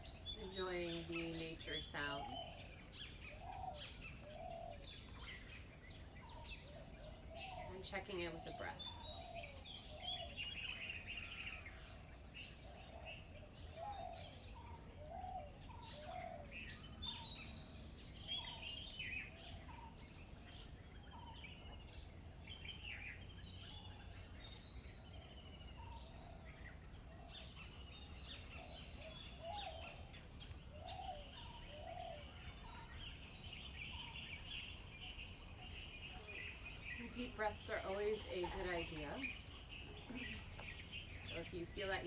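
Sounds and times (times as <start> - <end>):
birds chirping and trilling: 0.0 - 42.0.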